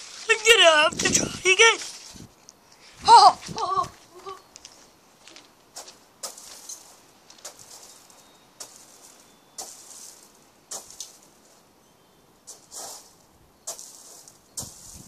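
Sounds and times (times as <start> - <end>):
soft rustles: 1.7 - 11.7, 12.5 - 15.0.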